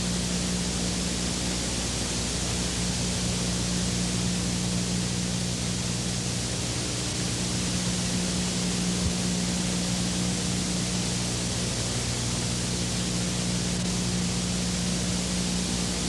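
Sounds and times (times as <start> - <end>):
constant low hum: 0.0 - 16.0
steady hiss: 0.0 - 16.0.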